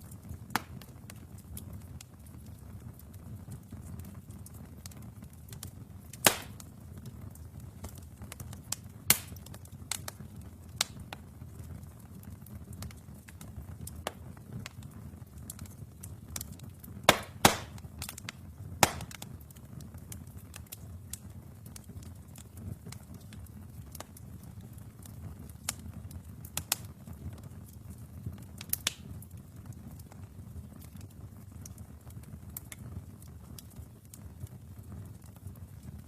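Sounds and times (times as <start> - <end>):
fire crackles and pops: 0.0 - 36.0
low rumble of flames: 0.0 - 36.0.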